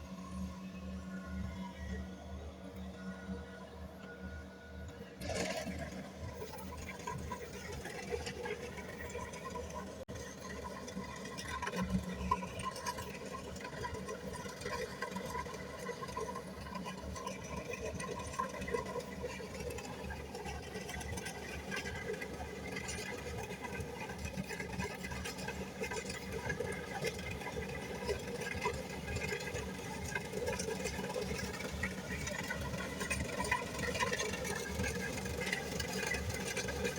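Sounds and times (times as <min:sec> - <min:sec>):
combine harvester drone: 0:00.0 - 0:36.9.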